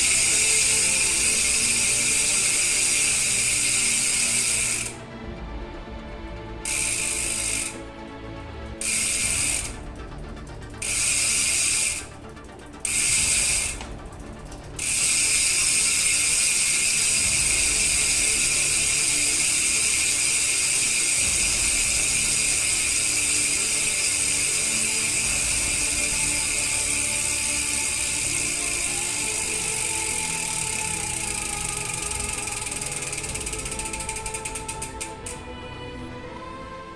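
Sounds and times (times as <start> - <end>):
bicycle hub freewheeling buzz: 0.0 - 35.7.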